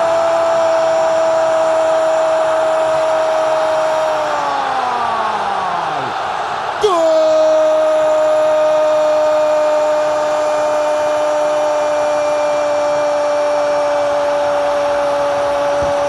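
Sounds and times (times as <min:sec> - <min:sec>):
commentator's long goal cry: 0:00.0 - 0:16.0
stadium crowd noise: 0:00.0 - 0:16.0.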